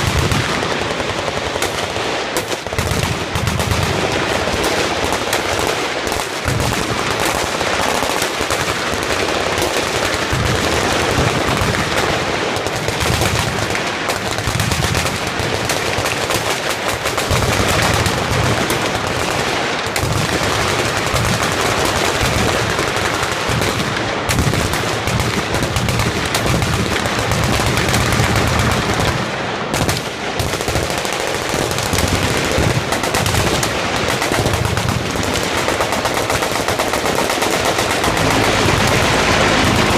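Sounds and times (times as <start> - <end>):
machine guns firing: 0.0 - 39.9.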